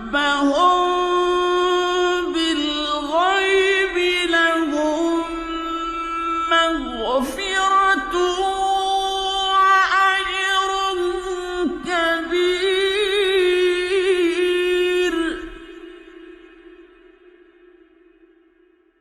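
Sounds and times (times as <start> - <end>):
man chanting melodically: 0.0 - 17.8.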